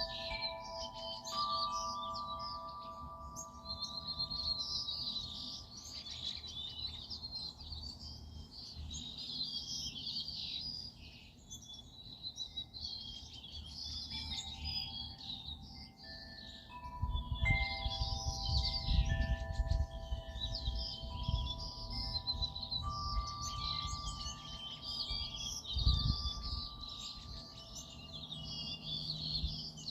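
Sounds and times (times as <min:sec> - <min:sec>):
wind chime tones: 0:00.0 - 0:09.0, 0:13.8 - 0:29.9
songbirds chirping: 0:00.0 - 0:29.9.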